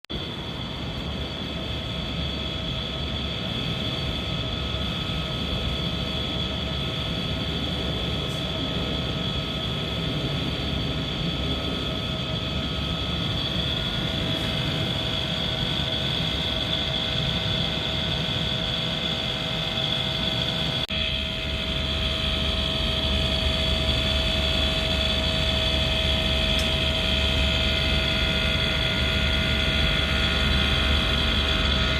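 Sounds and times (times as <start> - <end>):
air conditioner whining and humming: 3.4 - 31.9.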